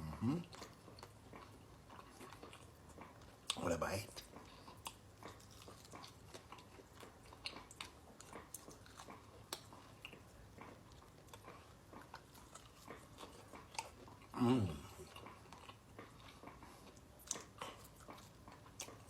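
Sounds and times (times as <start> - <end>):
chewing chicken wings: 0.0 - 19.0.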